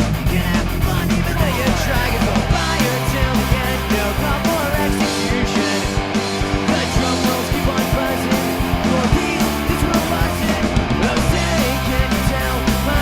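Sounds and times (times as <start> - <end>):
rock band playing: 0.0 - 13.0
drum hits: 0.8 - 13.0.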